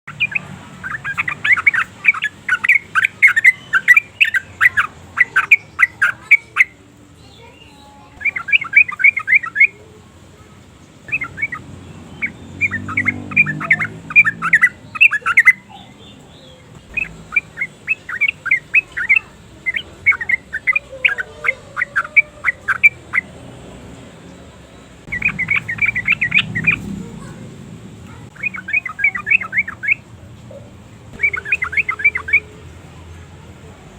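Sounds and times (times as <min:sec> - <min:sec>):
bird chattering calls: 0:00.1 - 0:09.9, 0:10.5 - 0:23.5, 0:25.0 - 0:32.6.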